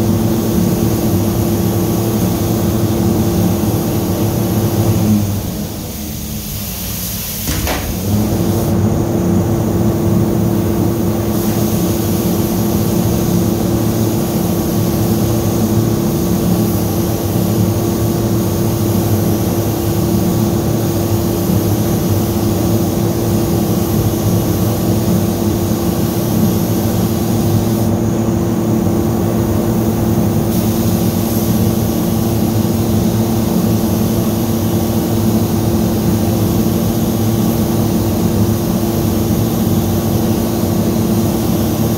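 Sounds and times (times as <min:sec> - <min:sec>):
ventilation machine drone: 0:00.0 - 0:41.9.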